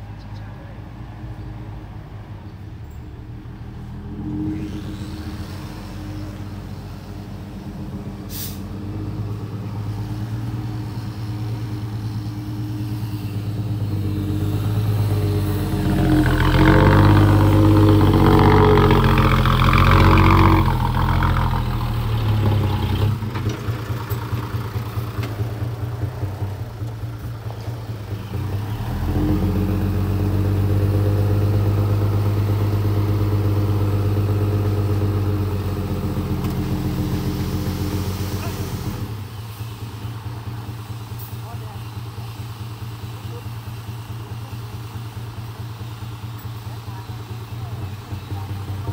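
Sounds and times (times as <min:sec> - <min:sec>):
diesel truck engine revving: 0:03.2 - 0:48.9.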